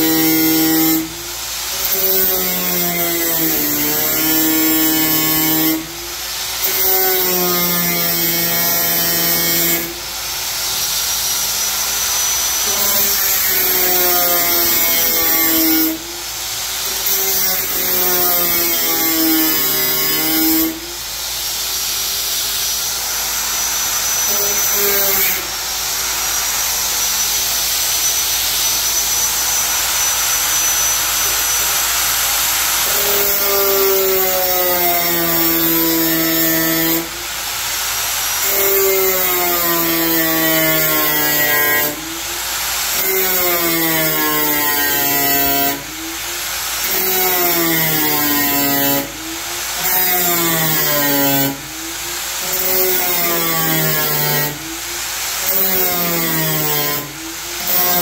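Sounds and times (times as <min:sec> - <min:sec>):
angle grinder cutting steel: 0:00.0 - 0:10.0, 0:10.7 - 0:21.1, 0:23.2 - 0:58.0.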